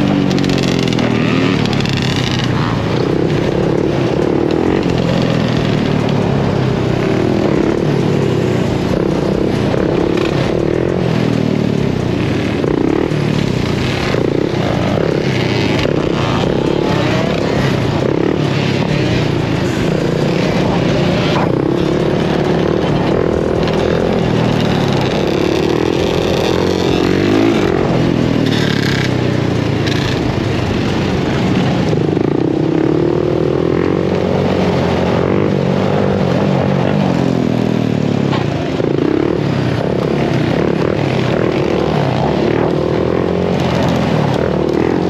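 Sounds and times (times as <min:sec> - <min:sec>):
dirt bike engines: 0:00.0 - 0:45.0
quad engine revving: 0:00.0 - 0:45.0.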